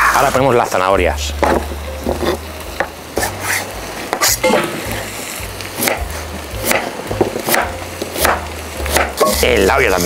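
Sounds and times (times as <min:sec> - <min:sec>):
background music with deep bass: 0:00.3 - 0:10.0.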